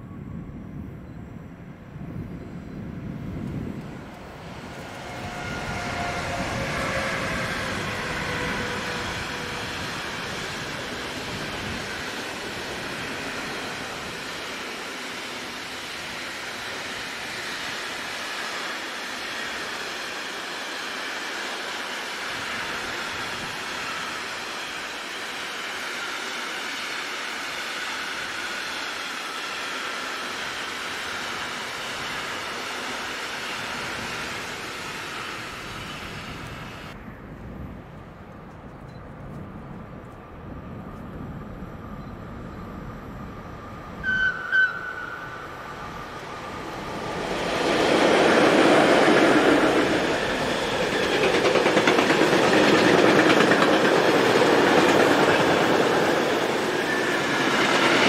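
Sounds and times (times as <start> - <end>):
train whine: 0.0 - 58.0
train wheels rolling on rails: 2.2 - 37.0, 37.8 - 58.0.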